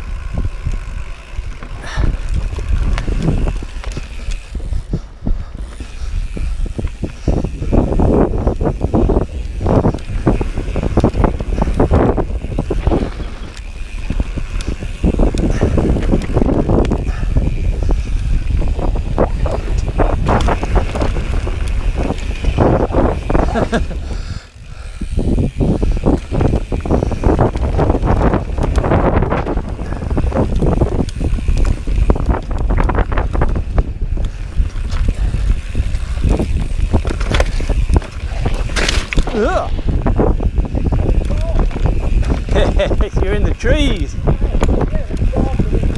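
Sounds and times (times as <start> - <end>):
bike rattling and knocking: 0.0 - 45.9
bike tyres rumbling on dirt: 0.0 - 45.9
wind buffeting microphone: 0.0 - 45.9.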